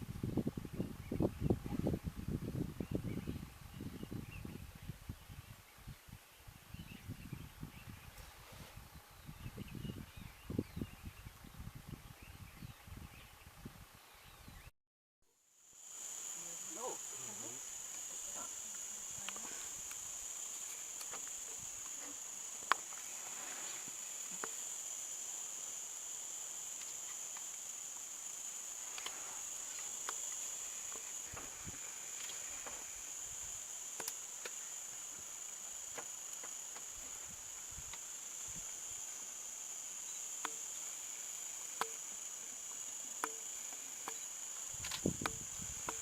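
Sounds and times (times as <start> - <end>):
high-pitched insect chorus: 0.2 - 13.4, 15.4 - 46.0.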